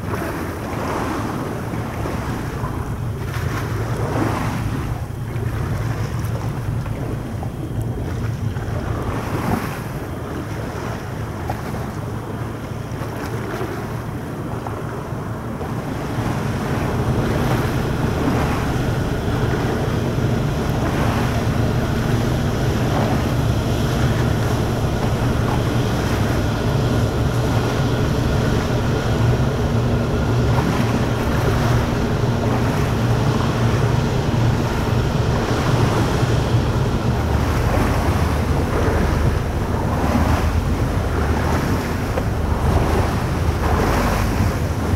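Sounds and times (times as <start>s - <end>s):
ship engine low rumble: 0.0s - 44.9s
water: 0.0s - 44.9s
wind on microphone: 0.0s - 44.9s.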